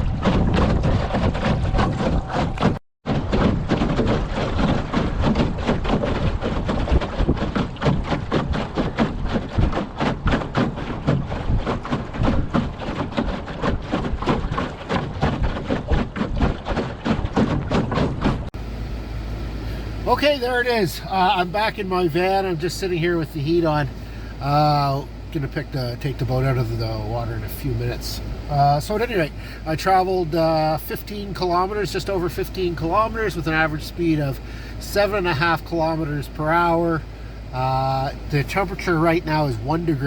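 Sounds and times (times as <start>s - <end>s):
water slapping against boat hull: 0.0s - 18.7s, 20.0s - 40.0s
wind buffeting: 0.0s - 40.0s.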